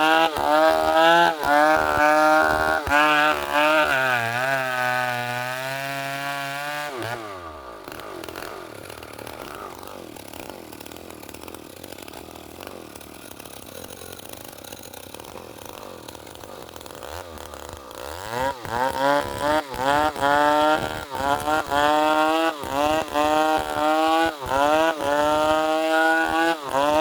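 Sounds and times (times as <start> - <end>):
two-stroke chainsaw running: 0.0 - 27.0.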